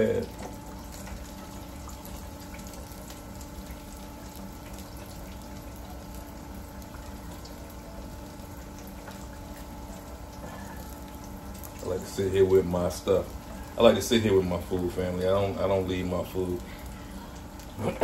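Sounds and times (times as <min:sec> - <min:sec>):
food deep-frying in oil: 0:00.0 - 0:18.0.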